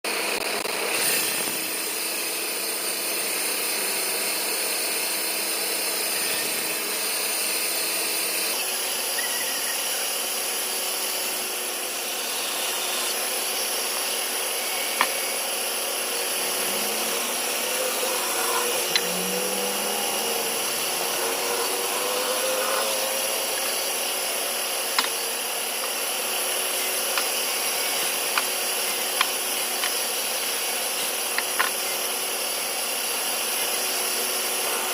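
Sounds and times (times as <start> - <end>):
band saw cutting wood: 0.2 - 34.9.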